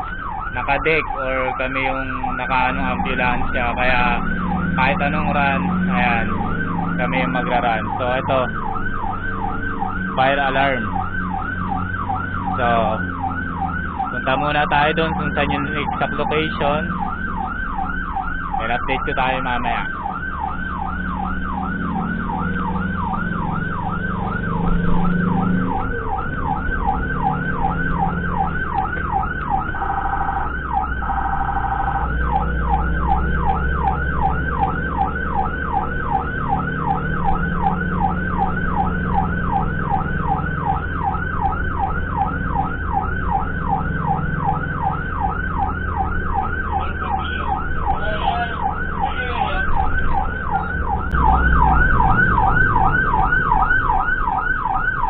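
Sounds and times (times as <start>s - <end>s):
ambulance siren yelping: 0.0s - 55.0s
vehicle engine rumbling: 0.0s - 55.0s.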